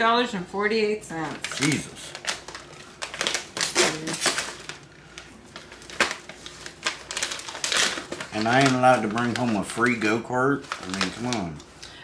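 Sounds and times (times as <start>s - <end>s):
plastic packaging crinkling: 1.3s - 12.0s.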